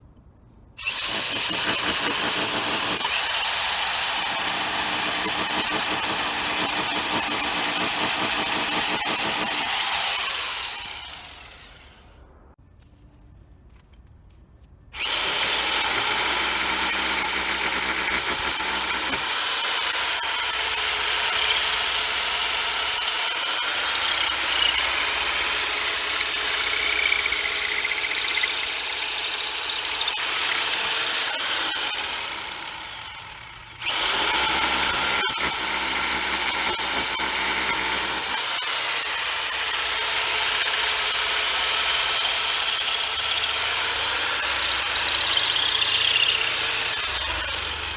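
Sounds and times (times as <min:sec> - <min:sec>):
power drill boring into block wall: 0:00.8 - 0:12.0, 0:15.0 - 0:47.9.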